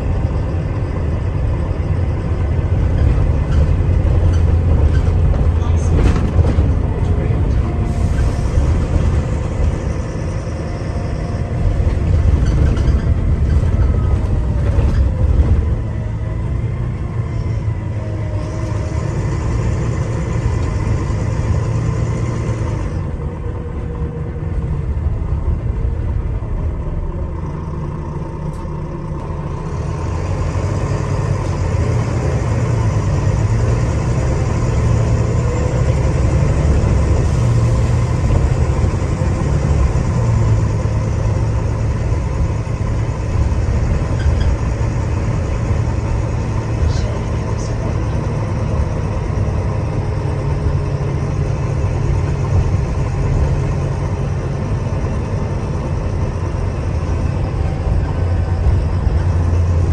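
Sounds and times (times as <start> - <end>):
bus diesel engine rumbling: 0.0 - 59.9.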